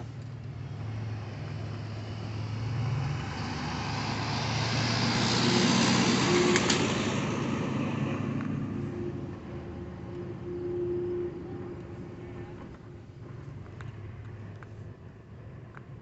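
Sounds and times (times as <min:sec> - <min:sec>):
car engine hum: 0:00.0 - 0:16.0
tyre and road noise: 0:00.0 - 0:16.0.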